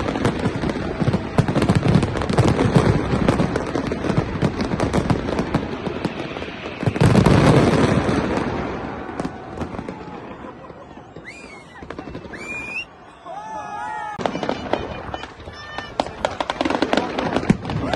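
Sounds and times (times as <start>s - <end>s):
fireworks bangs and crackling: 0.0s - 13.0s, 14.1s - 17.9s.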